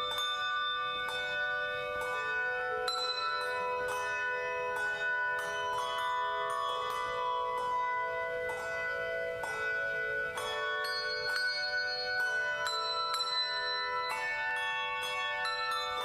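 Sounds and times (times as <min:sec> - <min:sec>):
bell choir playing: 0:00.0 - 0:16.0.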